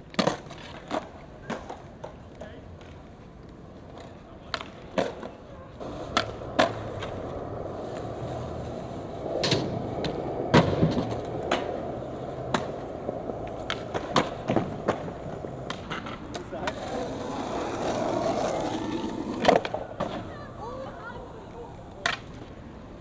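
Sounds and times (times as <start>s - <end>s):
skateboard wooden clacks: 0.0s - 20.4s, 21.9s - 22.6s
skateboard wheels rolling on concrete: 0.0s - 23.0s.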